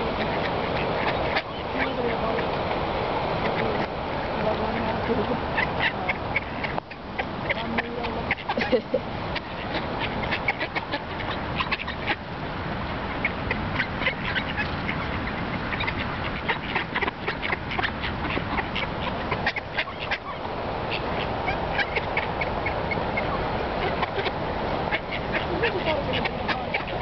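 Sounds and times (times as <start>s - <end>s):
ducks feeding clicks and calls: 0.0s - 27.0s.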